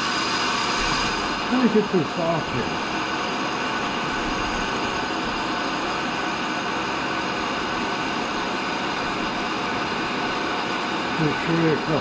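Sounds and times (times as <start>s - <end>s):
grinder whining: 0.0s - 12.0s.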